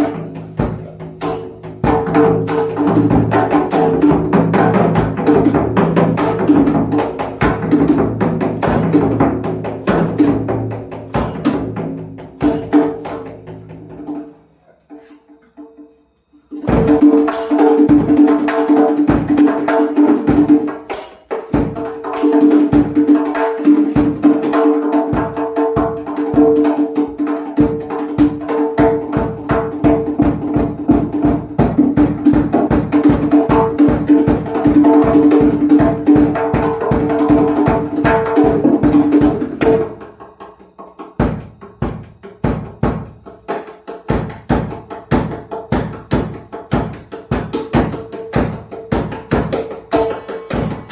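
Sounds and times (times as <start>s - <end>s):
fast solo drumming: 0.0s - 14.0s, 16.6s - 50.9s.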